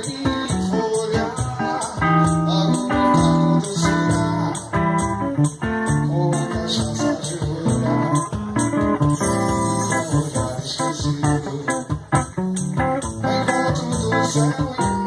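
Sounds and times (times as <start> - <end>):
cajon beat: 0.0 - 15.0
electric guitar melody: 0.0 - 15.0.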